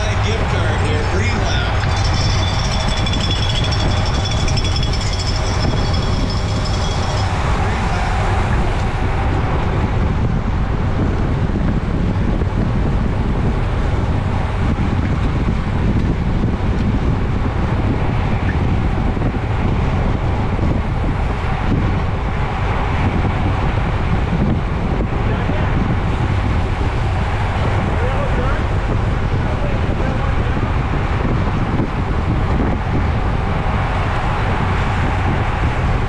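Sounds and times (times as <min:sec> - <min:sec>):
wind rushing on microphone: 0:00.0 - 0:36.0.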